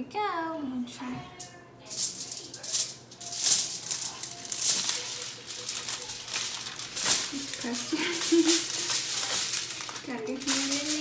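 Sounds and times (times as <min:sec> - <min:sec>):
aluminium foil crinkling: 0:01.8 - 0:11.0.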